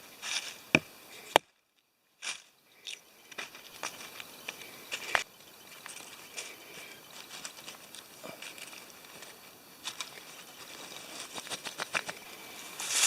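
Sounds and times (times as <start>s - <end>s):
twigs and leaf litter crackling: 0.2s - 13.0s.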